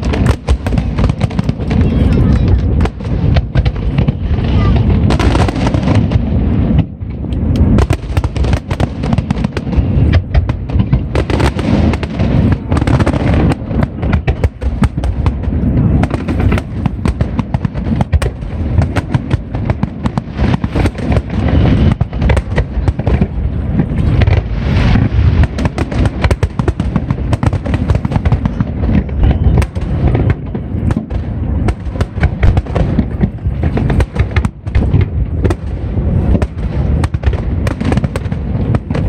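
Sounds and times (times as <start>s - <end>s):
fireworks booming and crackling: 0.0s - 39.0s.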